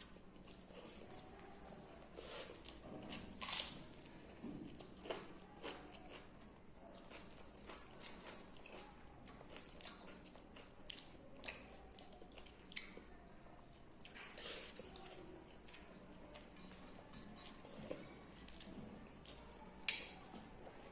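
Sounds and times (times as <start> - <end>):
chewing and crunching food: 0.0 - 20.9.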